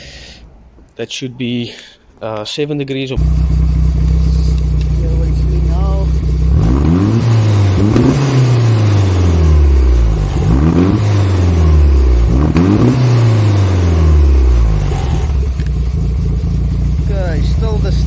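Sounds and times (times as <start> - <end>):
car engine revving and idling: 3.2 - 18.0.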